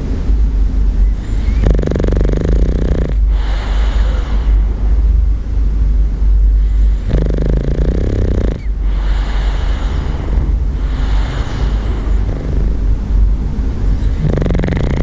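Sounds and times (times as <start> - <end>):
steady low rumble: 0.0 - 15.0
dog snoring: 1.2 - 5.2, 6.3 - 15.0
rough breath: 2.5 - 15.0.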